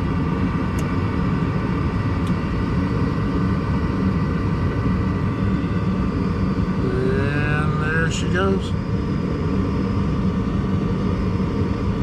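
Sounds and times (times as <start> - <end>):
heating unit rumble and hum: 0.0 - 12.0.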